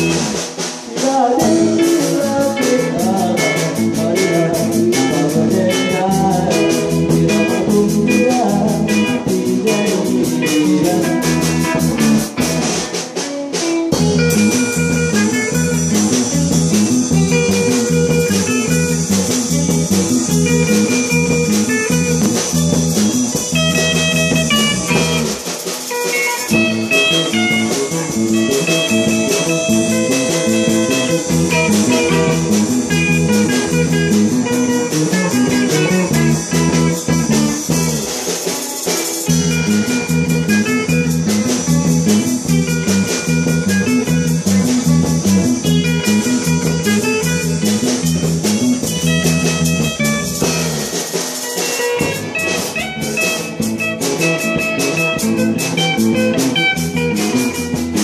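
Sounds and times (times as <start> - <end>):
bass guitar: 0.0 - 58.0
drum kit: 0.0 - 58.0
electric guitars: 0.0 - 58.0.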